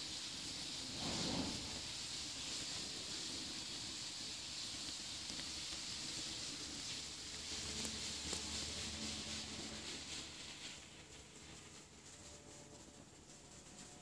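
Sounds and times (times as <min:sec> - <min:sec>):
faint room tone hiss: 0:00.0 - 0:14.0
soft rustle: 0:00.0 - 0:14.0.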